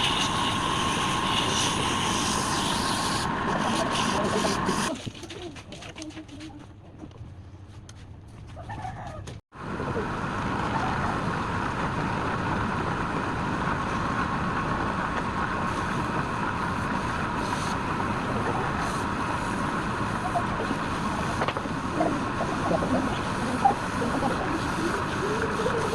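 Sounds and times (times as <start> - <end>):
machine noise with whine: 0.0 - 5.0, 9.6 - 25.9.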